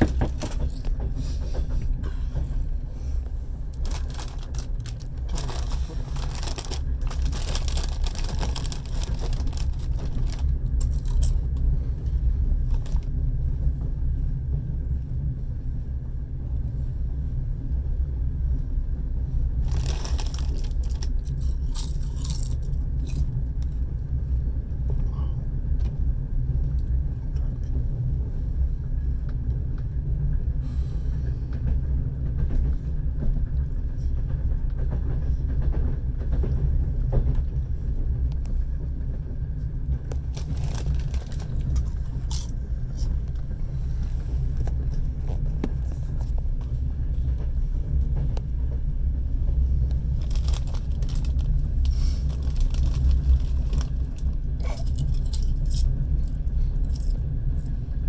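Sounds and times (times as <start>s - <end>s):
train rattling and clattering: 0.0s - 58.0s
train rumbling: 0.0s - 58.0s.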